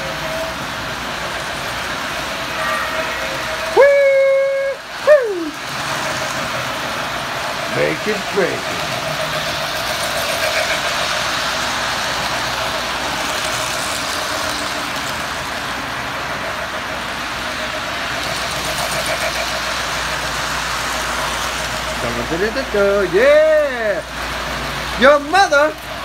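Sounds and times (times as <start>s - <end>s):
model train whirring on rails: 0.0s - 26.0s.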